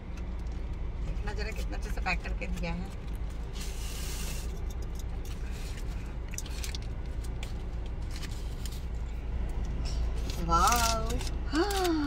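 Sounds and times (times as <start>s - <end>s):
car low hum: 0.0s - 12.0s.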